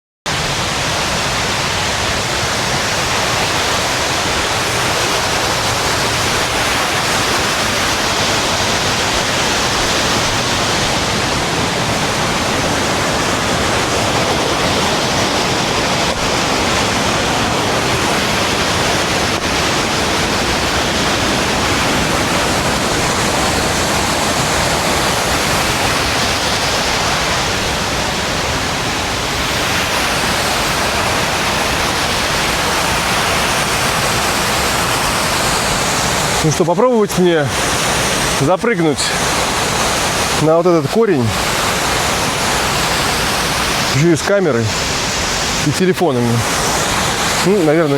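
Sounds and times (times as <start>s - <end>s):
waterfall rushing: 0.3s - 47.9s.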